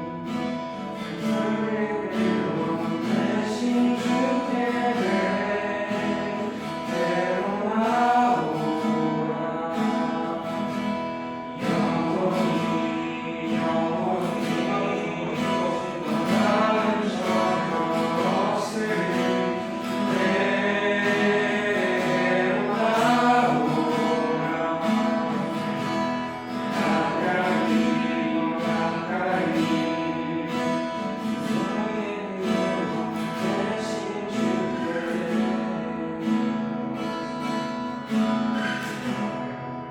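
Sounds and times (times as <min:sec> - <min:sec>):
acoustic guitar strumming: 0:00.0 - 0:39.9
voices singing: 0:00.9 - 0:10.9, 0:11.5 - 0:36.5.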